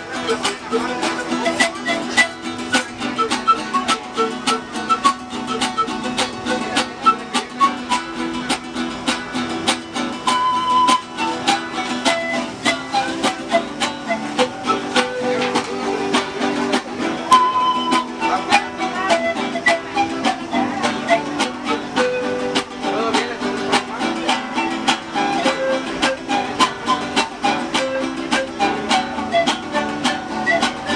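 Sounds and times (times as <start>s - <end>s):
strummed guitar music: 0.0s - 30.9s.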